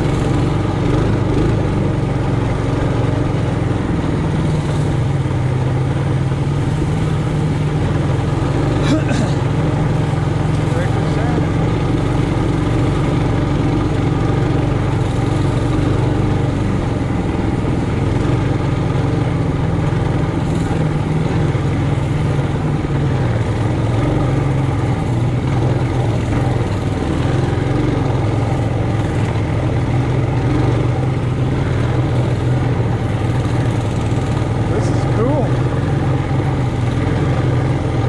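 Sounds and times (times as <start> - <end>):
mini bike engine running: 0.0 - 38.0.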